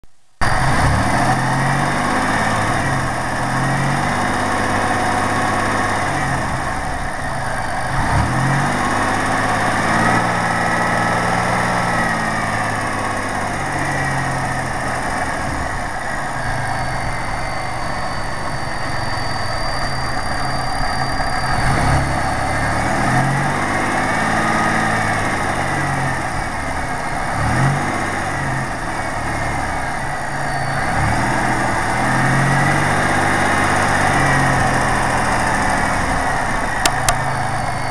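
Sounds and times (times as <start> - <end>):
car engine idling and revving: 0.0 - 37.9
engine ticking: 0.4 - 37.9.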